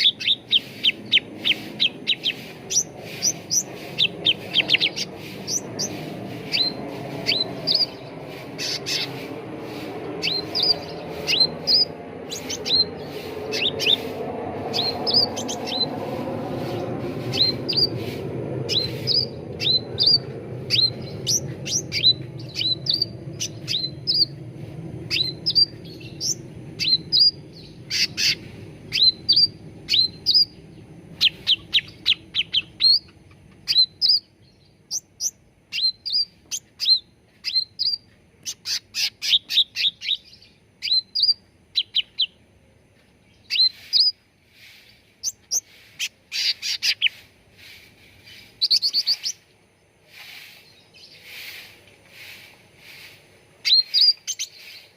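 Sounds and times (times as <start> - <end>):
low background hum: 0.0 - 54.8
songbird chirping: 0.0 - 54.9.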